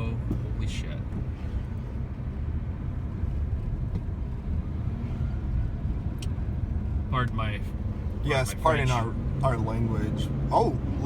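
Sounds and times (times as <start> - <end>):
road and engine noise inside car: 0.0 - 11.0.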